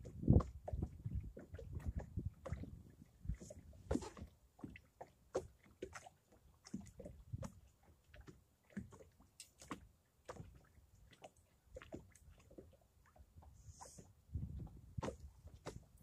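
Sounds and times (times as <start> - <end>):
small waves lapping against hull: 0.0 - 16.0.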